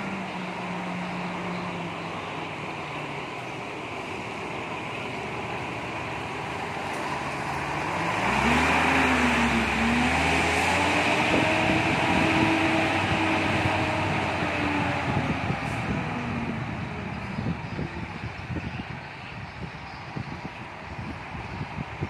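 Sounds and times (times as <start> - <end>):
coach diesel engine pulling away: 0.0 - 22.0.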